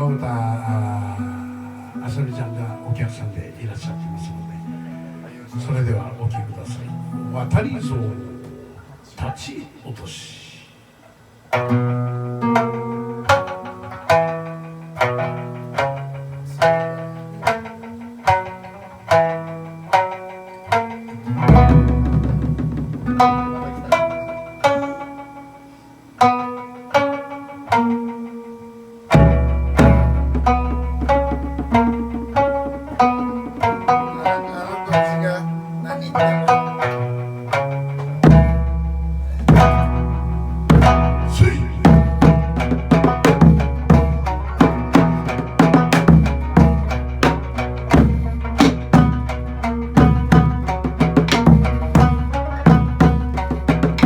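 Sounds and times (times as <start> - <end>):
plucked lute notes ringing: 0.0 - 9.3, 11.2 - 54.0.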